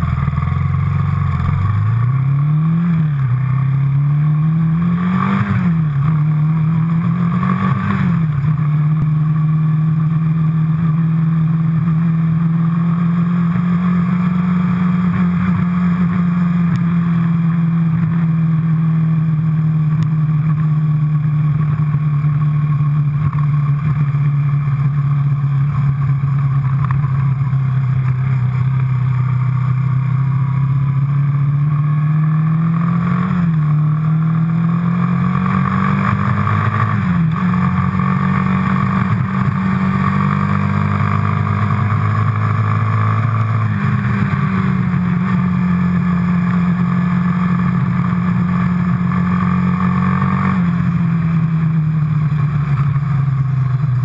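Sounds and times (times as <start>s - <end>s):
quad bike engine revving: 0.0s - 54.0s.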